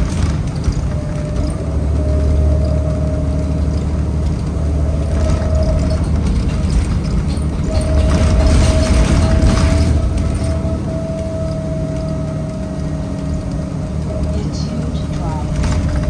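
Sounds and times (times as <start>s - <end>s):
bus engine and road rumble: 0.0s - 16.0s
light rattles: 0.0s - 16.0s
thin whine: 0.0s - 16.0s.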